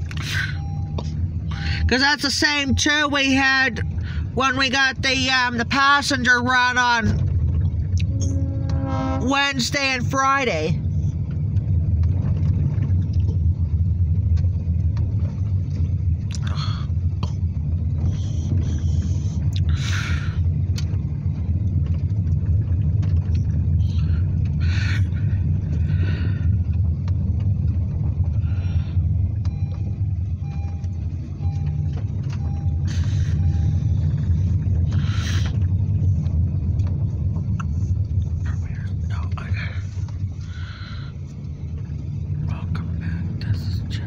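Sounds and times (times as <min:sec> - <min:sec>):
car road noise rumble: 0:00.0 - 0:44.0.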